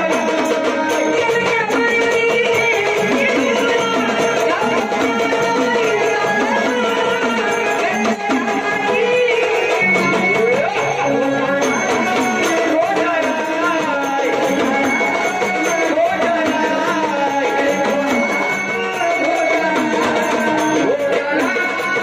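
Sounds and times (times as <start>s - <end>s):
hand drum beat: 0.0s - 22.0s
woman singing: 0.0s - 22.0s.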